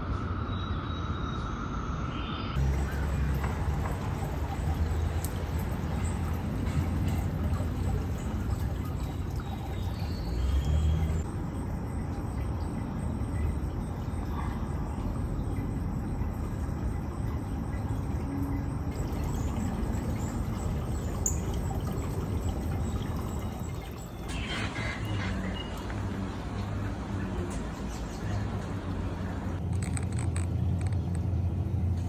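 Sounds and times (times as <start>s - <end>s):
water trickling in pond: 2.6s - 32.0s.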